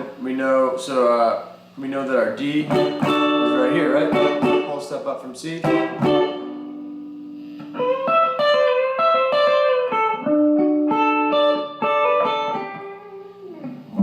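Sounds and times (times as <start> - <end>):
electric guitar bent notes: 2.6 - 14.0.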